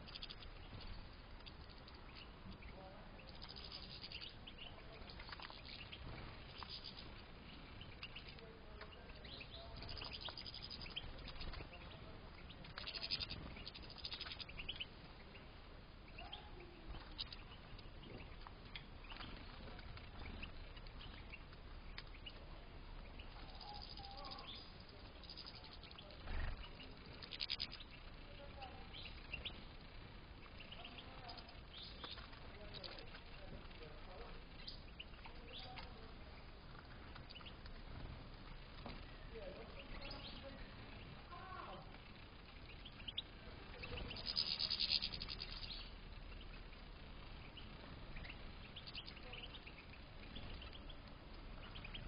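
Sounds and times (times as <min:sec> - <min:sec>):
finches chirping: 0:00.0 - 0:52.0.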